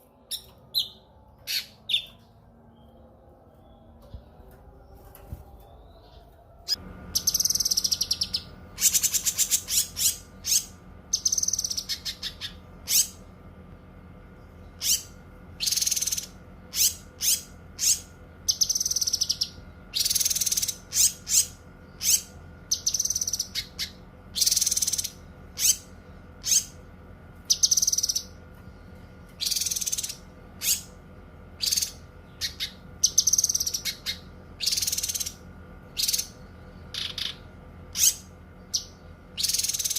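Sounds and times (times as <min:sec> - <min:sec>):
low electrical hum: 0:00.0 - 0:39.9
bird singing high chirps: 0:00.3 - 0:13.2, 0:14.7 - 0:26.7, 0:27.5 - 0:28.4, 0:31.6 - 0:39.9.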